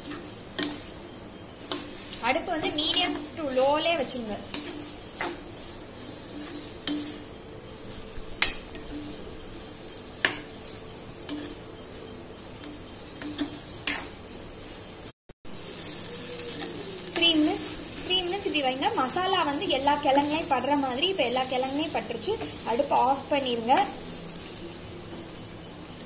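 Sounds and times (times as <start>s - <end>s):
low sizzle: 0.0s - 26.0s.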